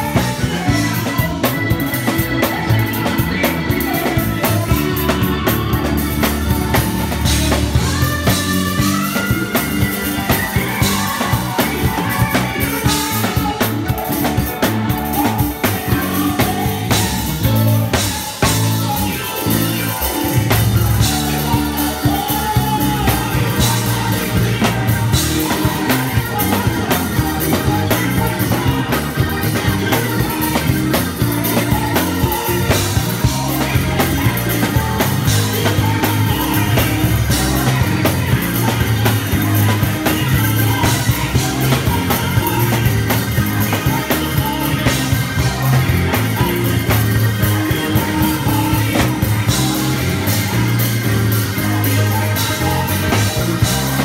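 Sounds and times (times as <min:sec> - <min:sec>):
drum kit: 0:00.0 - 0:54.0
electric bass: 0:00.0 - 0:54.0
electric organ: 0:00.0 - 0:54.0
voices singing along: 0:00.0 - 0:54.0.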